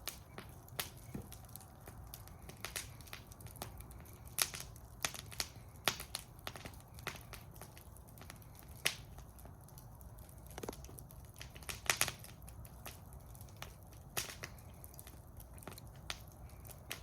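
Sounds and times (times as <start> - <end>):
flames rumbling: 0.0 - 17.0
wood fire crackling: 0.0 - 17.0.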